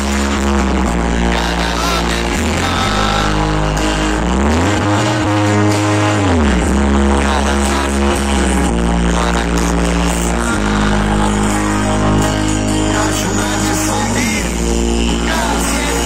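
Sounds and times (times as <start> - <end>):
live rock band: 0.0 - 16.0
sustained bass and keyboard notes: 0.0 - 16.0.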